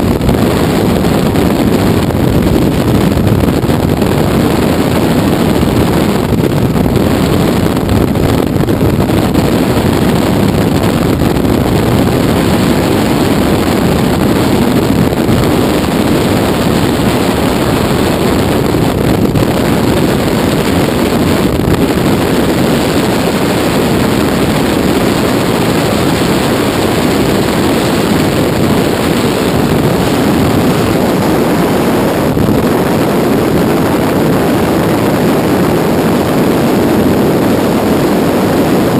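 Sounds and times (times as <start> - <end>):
helicopter engine and rotor: 0.0 - 38.9
wind on microphone: 0.0 - 38.9.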